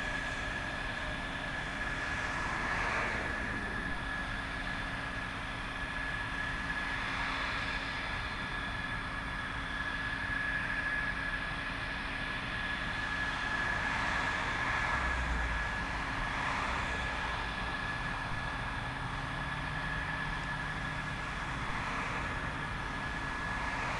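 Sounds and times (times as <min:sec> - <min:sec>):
jet engines idling: 0:00.0 - 0:23.9.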